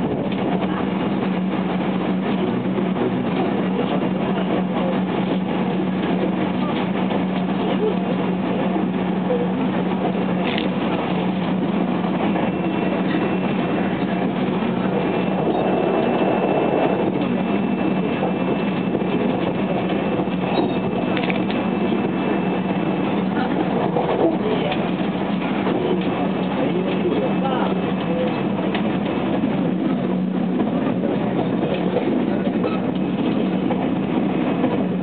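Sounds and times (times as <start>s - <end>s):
low hum: 0.0s - 35.0s
train wheels rumbling on rail: 0.0s - 35.0s.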